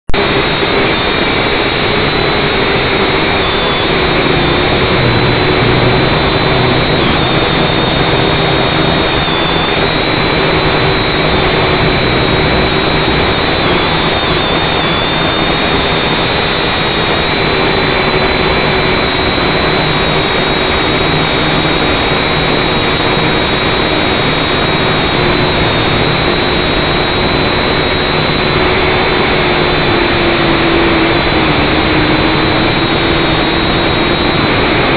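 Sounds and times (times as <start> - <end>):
drone motors whining: 0.1 - 34.9.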